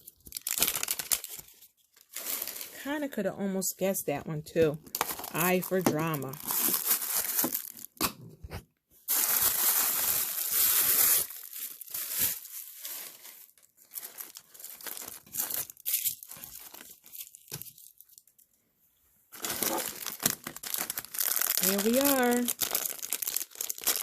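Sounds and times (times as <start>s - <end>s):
wrapper tearing: 0.0s - 2.8s, 4.9s - 8.0s, 9.1s - 18.3s, 19.4s - 24.0s
wrappers crinkling and rustling: 0.0s - 2.9s, 4.9s - 8.0s, 9.1s - 18.5s, 19.3s - 24.0s.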